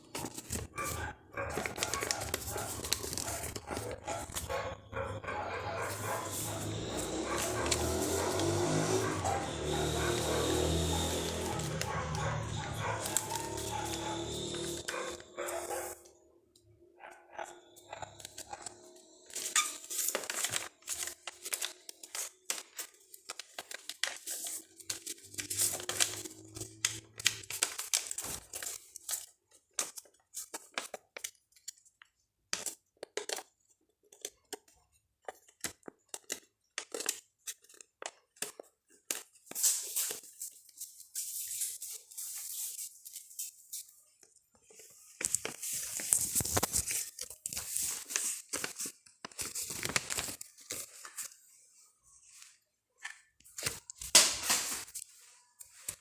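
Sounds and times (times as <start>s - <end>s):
paper rustling and creasing: 0.0s - 16.0s, 17.9s - 56.0s.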